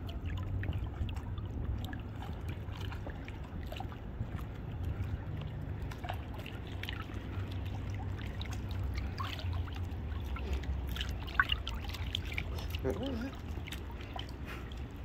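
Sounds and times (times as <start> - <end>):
pool water splashing: 0.0 - 15.0
steady low rumble: 0.0 - 15.0.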